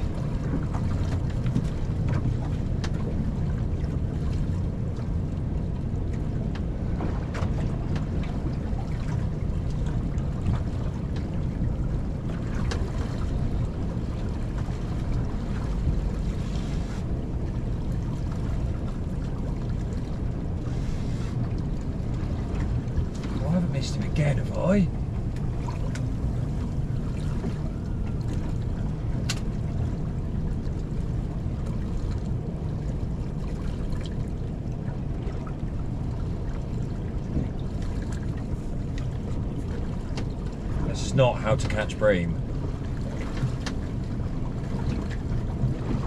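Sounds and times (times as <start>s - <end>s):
water washing against boat hull: 0.0s - 46.0s.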